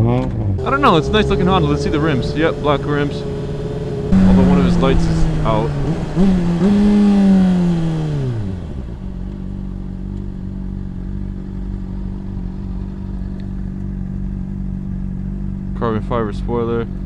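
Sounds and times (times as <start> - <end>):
motorcycle engine idling: 0.5 - 17.0.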